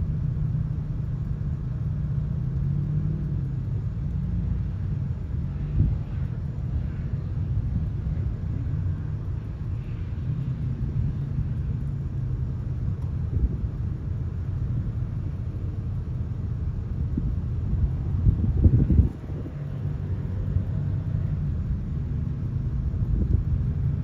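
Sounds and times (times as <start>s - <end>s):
distant low engine rumble: 0.0s - 24.0s.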